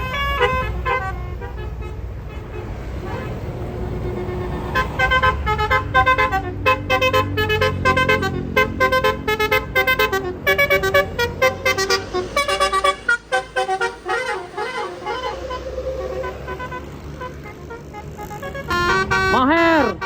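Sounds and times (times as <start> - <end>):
bus engine: 0.0 - 20.0
musical air horn melody: 0.0 - 20.0.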